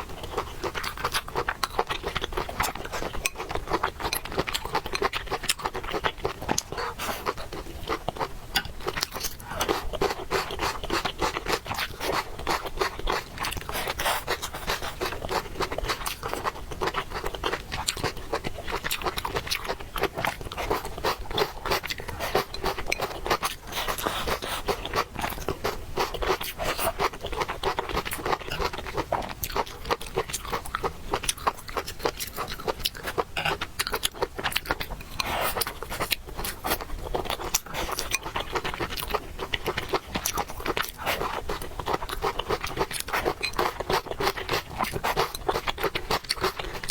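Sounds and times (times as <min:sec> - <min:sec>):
person chewing noodles: 0:00.0 - 0:46.9.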